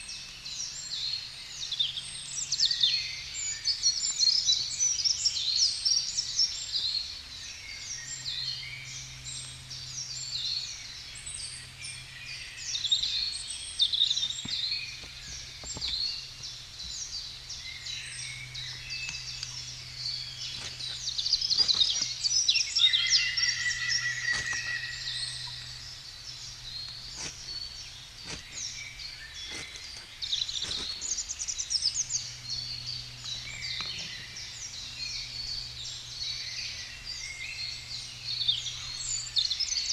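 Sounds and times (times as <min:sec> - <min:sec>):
bird trill: 0:00.0 - 0:39.9
songbirds singing and chirping: 0:00.0 - 0:39.9.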